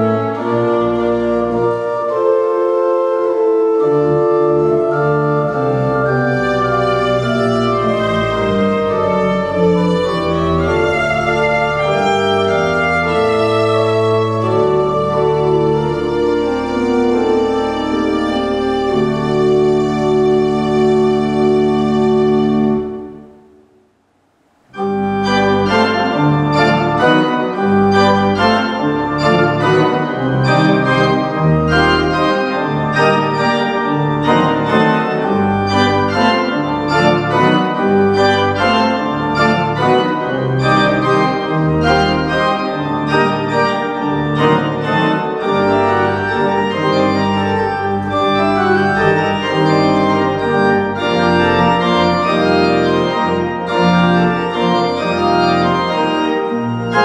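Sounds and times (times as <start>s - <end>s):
pipe organ playing: 0.0s - 23.7s, 24.5s - 57.0s.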